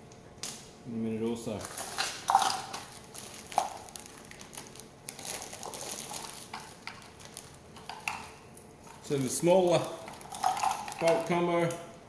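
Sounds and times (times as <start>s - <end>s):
plastic bag crinkling: 1.5s - 11.6s.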